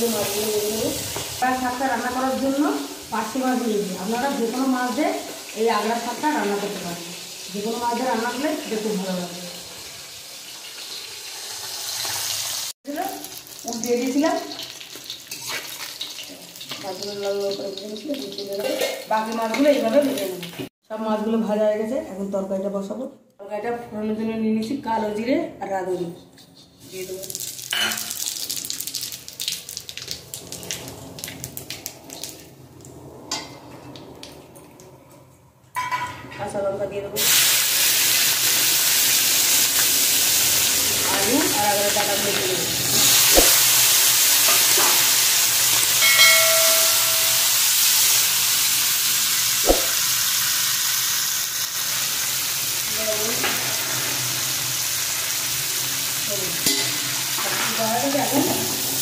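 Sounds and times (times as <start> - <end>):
hot oil sizzling and crackling: 0.0 - 20.8, 26.8 - 32.6, 37.2 - 59.0.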